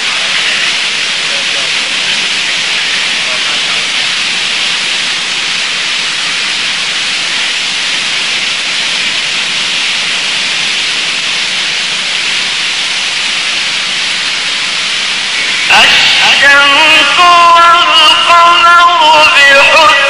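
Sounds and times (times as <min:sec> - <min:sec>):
old recording hiss: 0:00.0 - 0:20.0.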